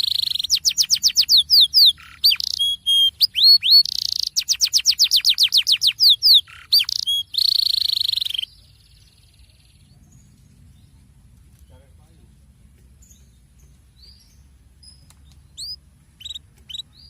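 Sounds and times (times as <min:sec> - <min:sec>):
canary singing trills: 0:00.0 - 0:11.1, 0:13.0 - 0:17.0.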